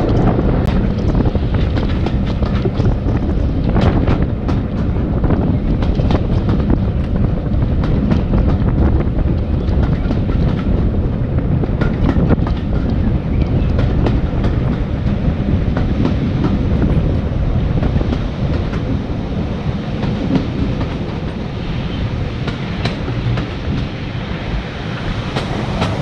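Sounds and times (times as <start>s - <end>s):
train rumbling: 0.0s - 26.0s
wheels clattering over rail joints: 0.0s - 26.0s.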